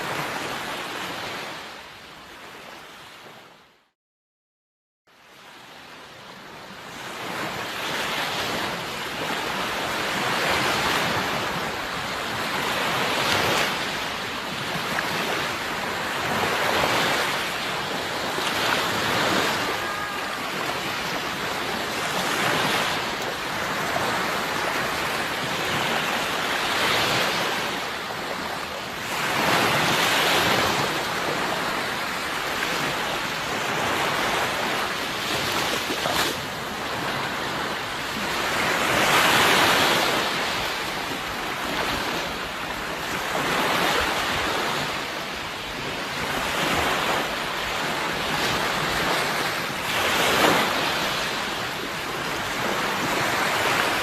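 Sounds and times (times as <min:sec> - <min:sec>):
sea waves washing onto shore: 0:06.4 - 0:54.0.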